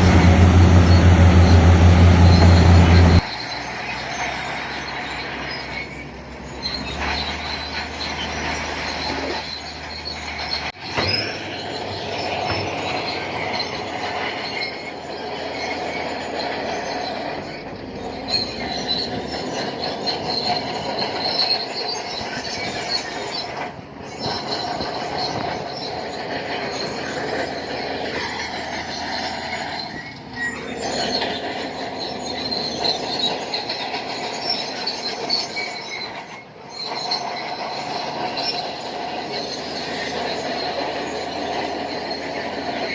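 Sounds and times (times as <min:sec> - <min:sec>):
bulldozer tracks squealing and clanking: 0:00.0 - 0:42.9
diesel engine running: 0:00.0 - 0:42.9.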